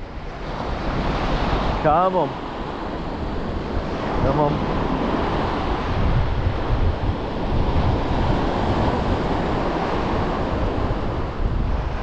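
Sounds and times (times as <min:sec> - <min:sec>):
waves washing onto shingle: 0:00.0 - 0:12.0
wind buffeting microphone: 0:00.0 - 0:12.0.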